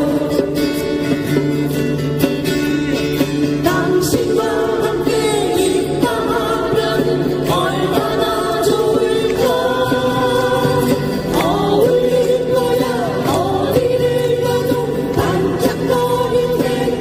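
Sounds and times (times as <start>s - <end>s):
people singing: 0.0s - 1.3s, 3.4s - 17.0s
acoustic guitars strumming chords: 0.0s - 17.0s.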